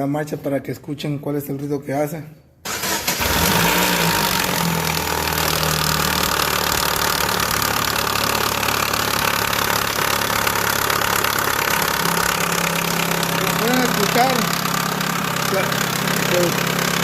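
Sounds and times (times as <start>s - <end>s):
car engine idling with clatter: 3.2s - 17.0s.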